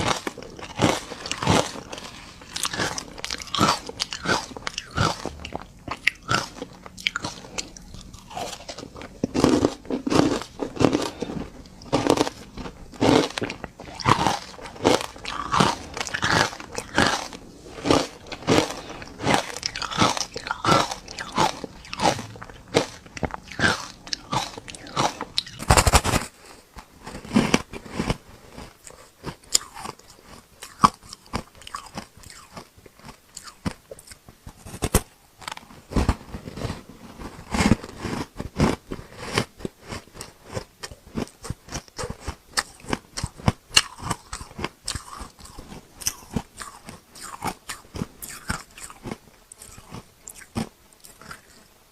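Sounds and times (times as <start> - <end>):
ice being chewed crunching: 0.0 - 51.7.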